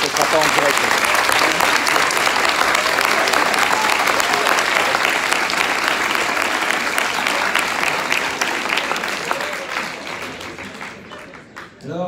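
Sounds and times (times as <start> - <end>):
audience applause: 0.0 - 11.7.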